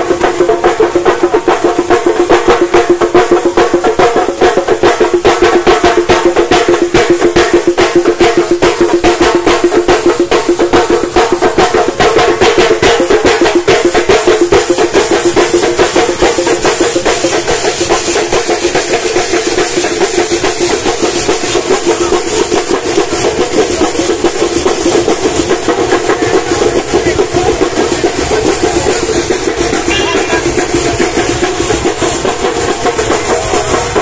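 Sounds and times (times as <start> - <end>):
drums beaten with sticks: 0.0 - 34.0
hand cymbals clashing: 0.0 - 34.0.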